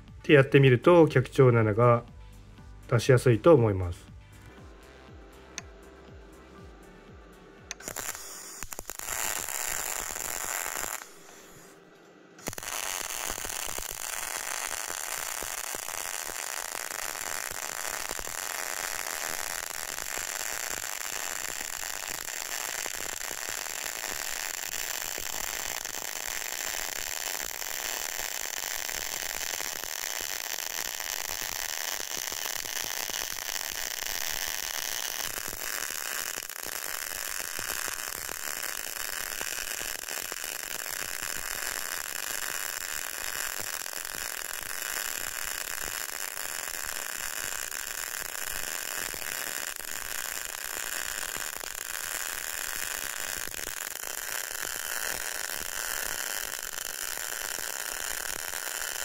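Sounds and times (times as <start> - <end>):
welding arc crackle: 7.7 - 11.8, 12.4 - 59.0.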